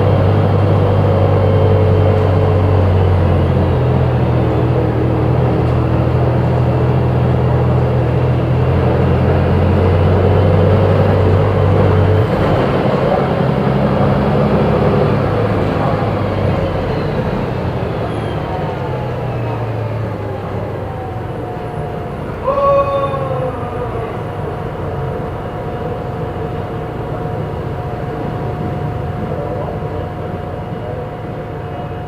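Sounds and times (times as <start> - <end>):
bus engine running: 0.0 - 32.0.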